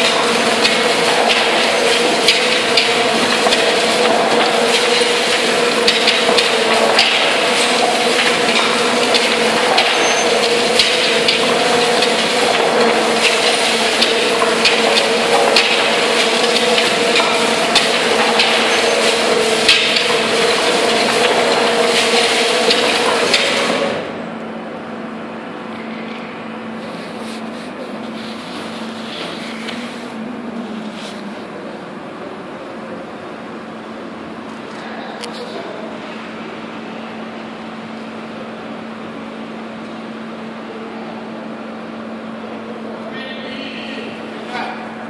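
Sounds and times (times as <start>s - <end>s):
boring machine mechanical hum: 0.0s - 45.0s.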